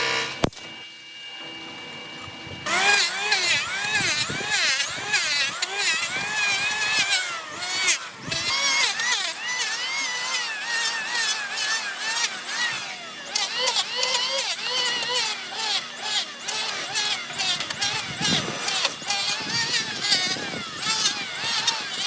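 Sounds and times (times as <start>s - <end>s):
power tool motor on wood: 0.0s - 22.0s.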